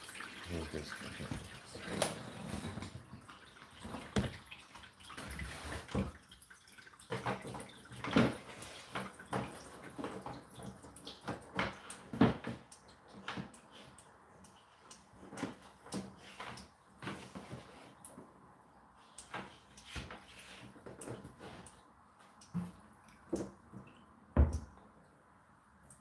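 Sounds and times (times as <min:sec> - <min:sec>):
dishwasher water splashing: 0:00.0 - 0:24.8.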